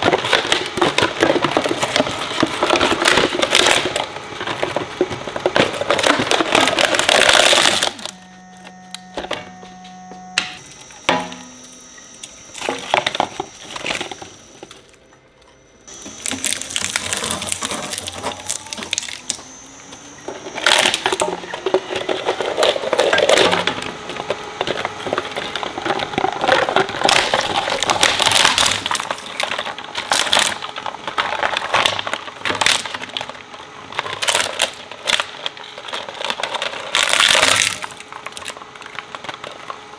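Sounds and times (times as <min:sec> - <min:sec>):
shredder crunching hard plastic: 0:00.0 - 0:39.9.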